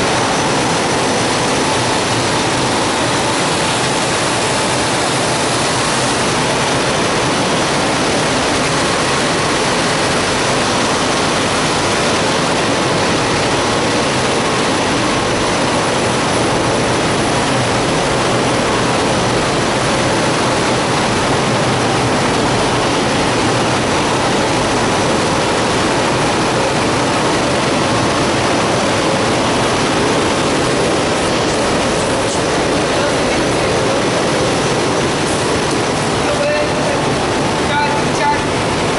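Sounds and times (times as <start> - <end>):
printing machine running: 0.0 - 38.9.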